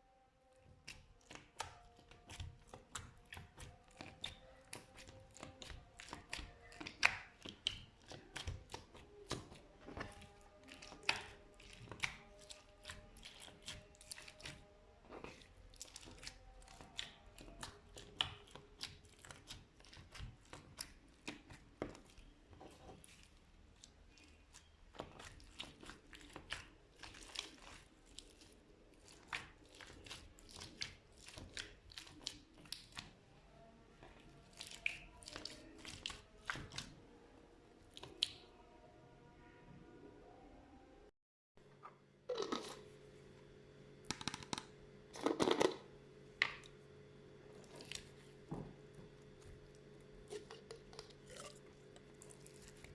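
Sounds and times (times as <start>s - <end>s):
slime squishing with sticky crackles: 0.4s - 37.1s, 37.8s - 38.6s, 46.4s - 52.9s.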